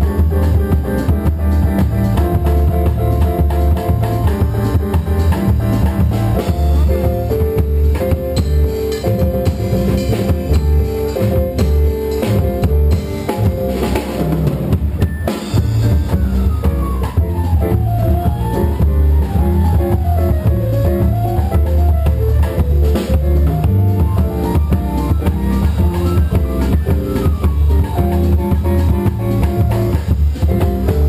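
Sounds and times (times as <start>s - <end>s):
drum kit: 0.0s - 31.0s
upright double bass: 0.0s - 31.0s.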